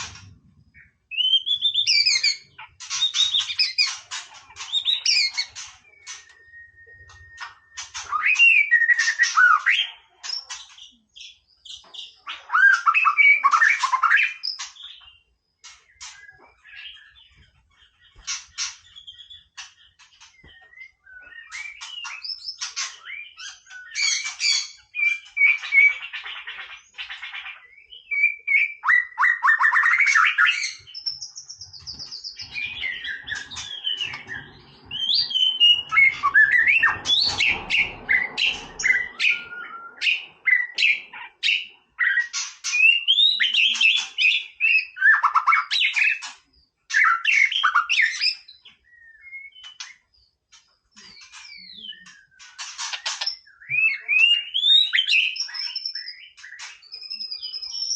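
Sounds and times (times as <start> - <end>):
bird singing whistles and trills: 0.0 - 57.9.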